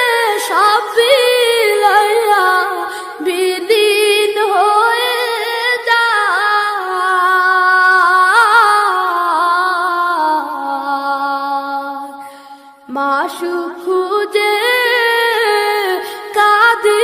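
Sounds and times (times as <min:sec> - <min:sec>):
person singing unaccompanied: 0:00.0 - 0:12.1, 0:12.9 - 0:17.0.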